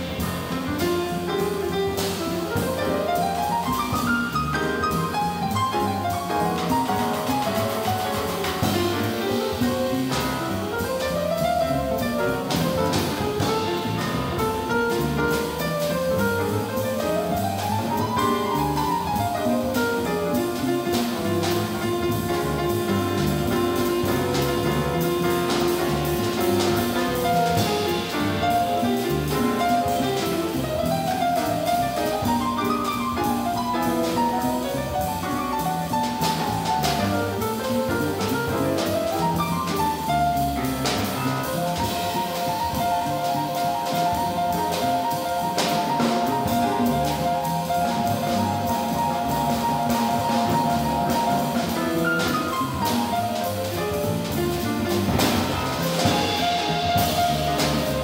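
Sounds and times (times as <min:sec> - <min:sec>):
double bass walking: 0:00.0 - 0:58.0
drum kit: 0:00.0 - 0:58.0
jazz piano runs: 0:00.0 - 0:58.0.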